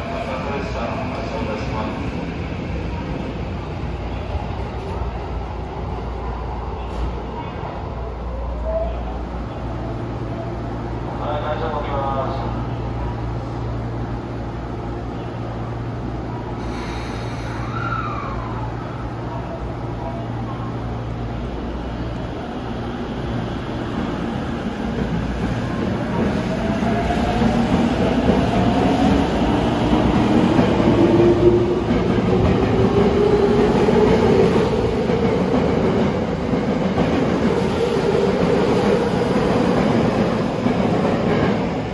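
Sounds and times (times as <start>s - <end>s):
subway train rumble: 0.0s - 41.9s.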